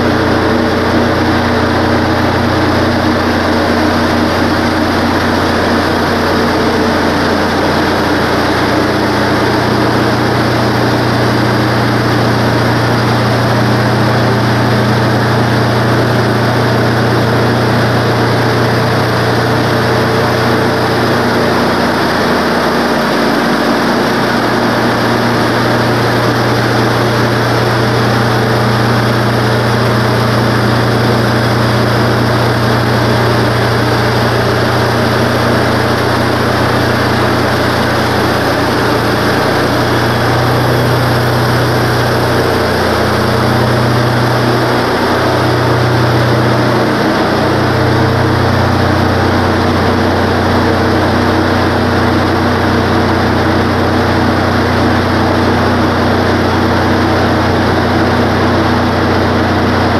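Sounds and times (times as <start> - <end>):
gas engine running: 0.0 - 59.9.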